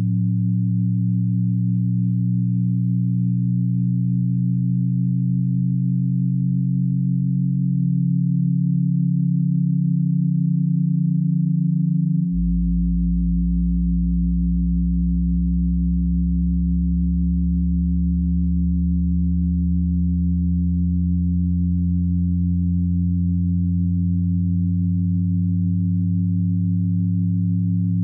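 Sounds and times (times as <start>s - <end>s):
electronic drone of low tones: 0.0s - 28.0s.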